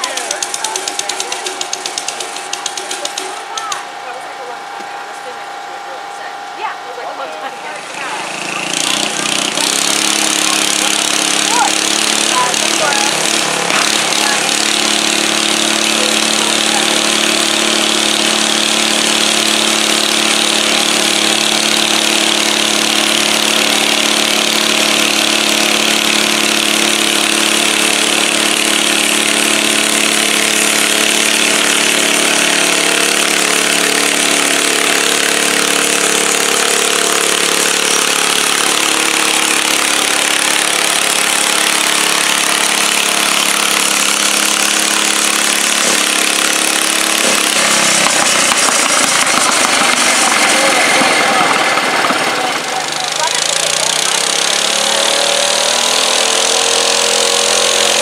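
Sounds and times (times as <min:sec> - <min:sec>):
tractor engines running loudly: 0:00.0 - 0:58.0.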